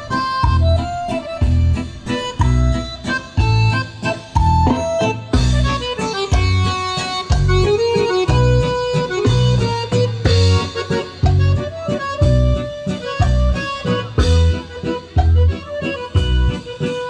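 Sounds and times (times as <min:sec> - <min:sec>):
cumbia music over loudspeakers: 0:00.0 - 0:17.0.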